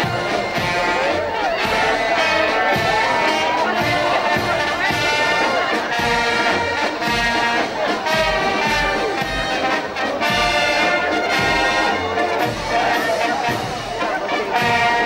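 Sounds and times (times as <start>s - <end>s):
low regular drum beats: 0.0s - 15.0s
marching brass band playing: 0.0s - 15.0s.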